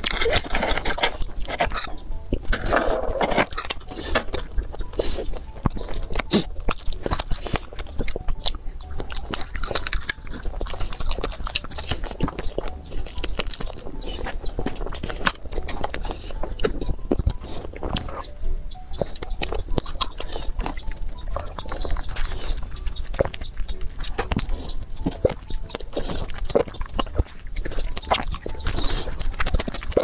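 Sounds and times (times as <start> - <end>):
crunchy biting and chewing: 0.0 - 30.0.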